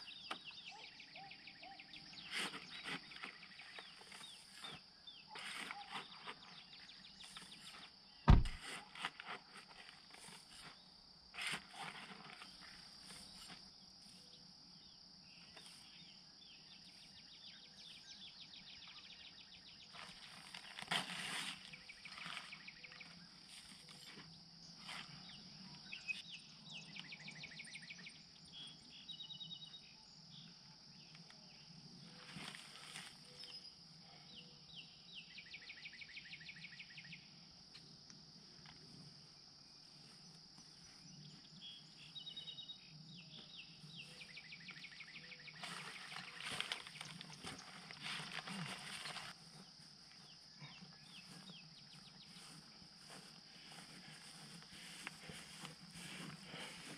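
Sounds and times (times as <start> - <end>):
high insect drone: 0.0 - 56.9.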